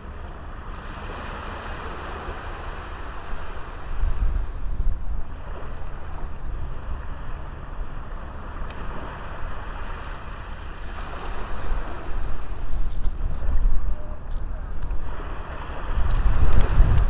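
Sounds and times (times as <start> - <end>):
sea waves washing onto beach: 0.0 - 17.0
wind buffeting the microphone: 0.8 - 17.0.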